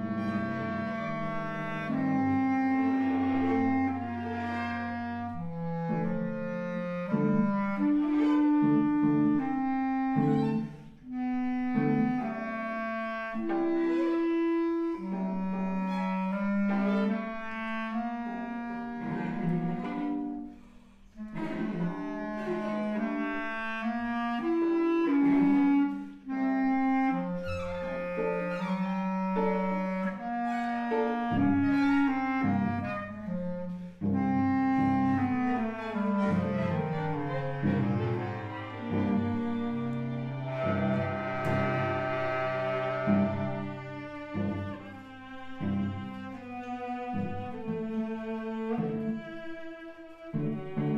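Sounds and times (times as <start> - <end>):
clarinet melody: 0.0 - 50.9.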